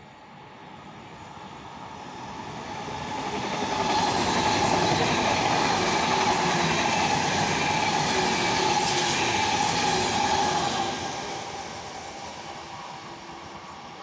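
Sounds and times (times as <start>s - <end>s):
high-speed train rushing past: 0.0s - 14.0s.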